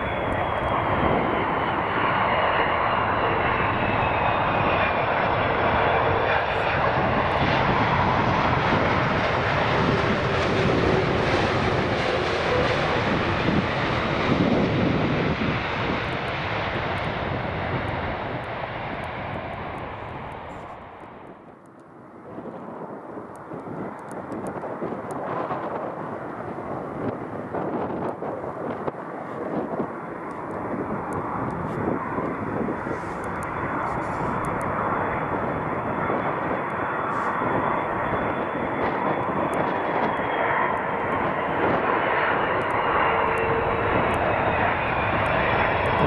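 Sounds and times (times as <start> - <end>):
jet engines running: 0.0 - 46.0
wind buffeting microphone: 0.0 - 46.0.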